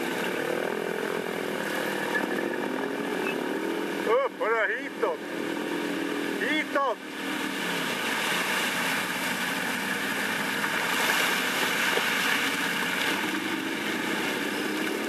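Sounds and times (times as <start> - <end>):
atv engine running: 0.0 - 15.0
steady rushing noise: 0.0 - 15.0.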